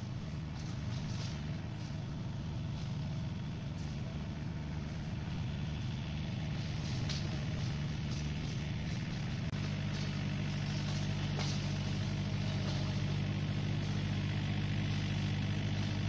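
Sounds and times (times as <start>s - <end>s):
distant tractor engine drone: 0.0s - 16.0s.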